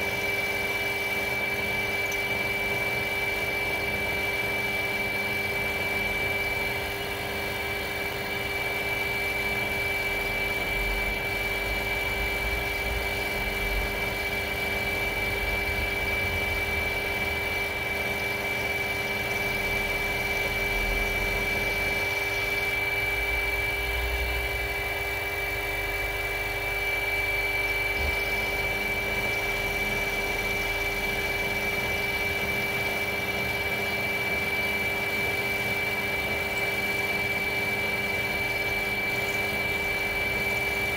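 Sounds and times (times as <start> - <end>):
milling machine spindle whine: 0.0 - 40.9.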